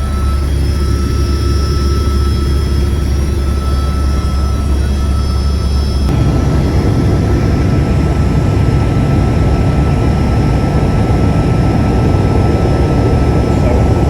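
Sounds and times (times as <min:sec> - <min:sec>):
helicopter running: 0:00.0 - 0:14.0.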